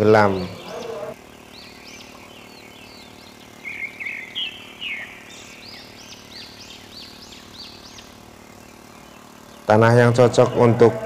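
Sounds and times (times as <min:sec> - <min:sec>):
faint steady hum: 0:00.0 - 0:11.0
songbird chirping: 0:00.0 - 0:11.0.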